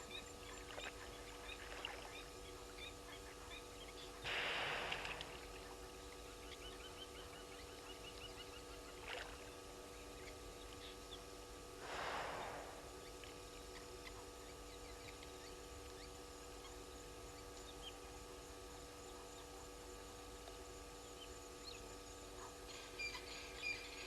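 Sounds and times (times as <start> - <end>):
faint chirps: 0.0 - 24.0
steady hum: 0.0 - 24.0.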